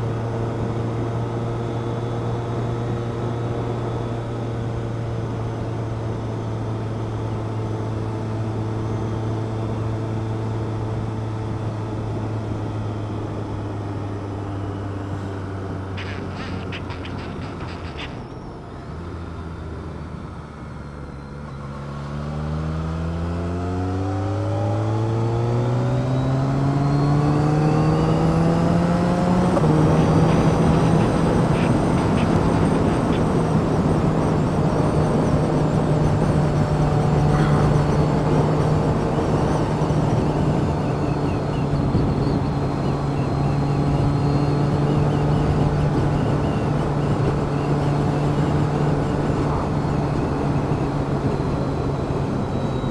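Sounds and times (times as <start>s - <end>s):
vehicle engine: 0.0s - 52.9s
wind and road noise: 0.0s - 52.9s.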